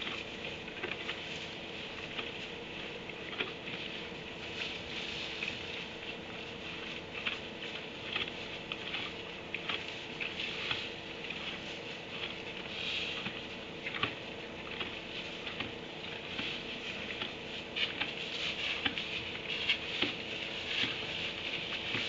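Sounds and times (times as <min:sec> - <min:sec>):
donkeys rustling in bedding: 0:00.0 - 0:22.0
steady hum and hiss: 0:00.0 - 0:22.0.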